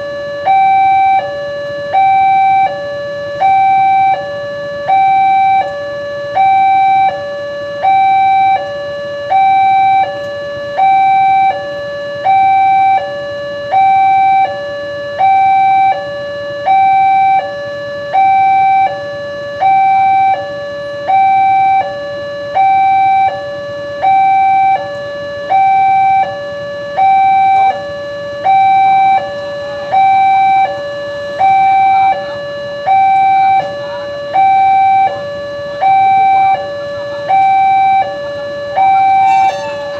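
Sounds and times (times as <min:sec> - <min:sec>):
level crossing warning alarm: 0:00.0 - 0:39.9.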